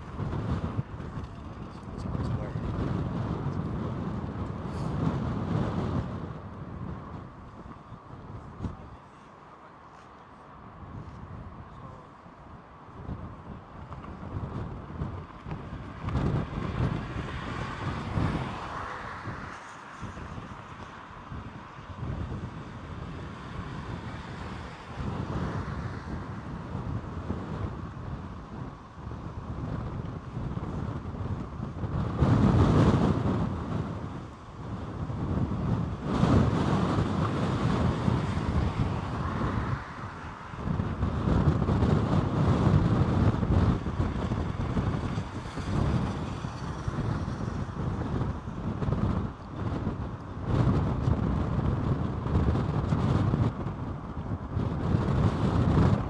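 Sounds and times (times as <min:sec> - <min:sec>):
gusty wind buffeting microphone: 0:00.0 - 0:56.0.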